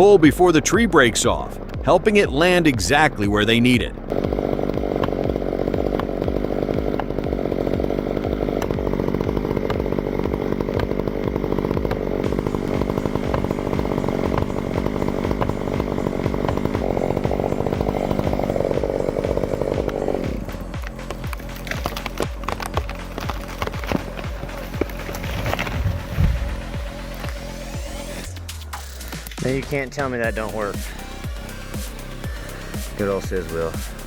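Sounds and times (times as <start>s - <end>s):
chainsaw cutting a tree trunk: 0.0s - 34.0s.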